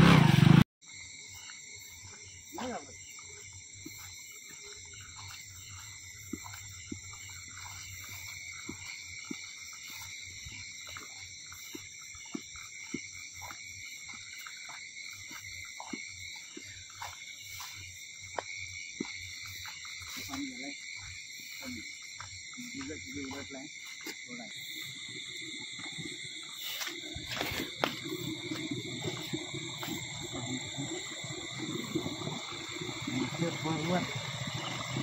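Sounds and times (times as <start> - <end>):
insects trilling: 0.8 - 35.0
frogs croaking: 0.9 - 35.0.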